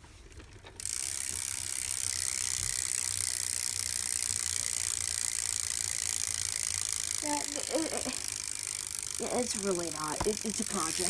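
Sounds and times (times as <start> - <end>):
bicycle freewheel ratcheting: 0.2 - 11.0.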